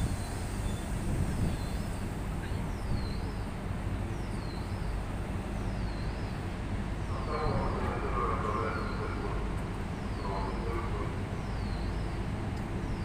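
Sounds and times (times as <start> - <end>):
electric locomotive rumble and hum: 0.0 - 13.0.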